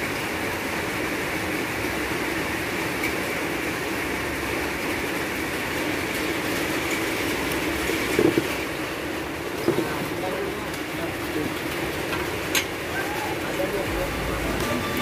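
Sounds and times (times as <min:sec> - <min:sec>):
heavy rain on water: 0:00.0 - 0:15.0.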